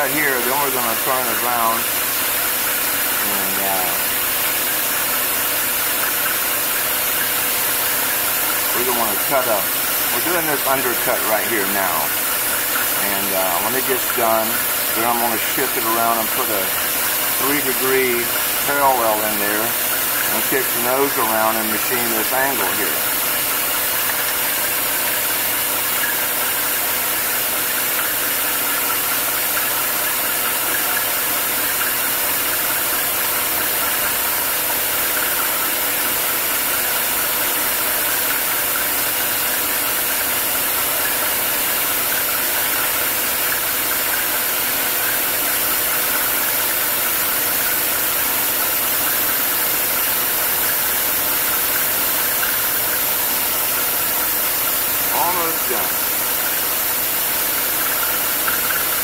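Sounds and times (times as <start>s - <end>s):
milling machine humming: 0.0s - 59.0s.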